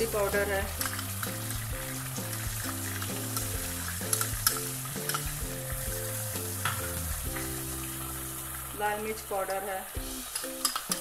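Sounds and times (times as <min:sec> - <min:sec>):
background music: 0:00.0 - 0:11.0
oil crackling and popping: 0:00.0 - 0:11.0
oil sizzling in a frying pan: 0:00.0 - 0:11.0.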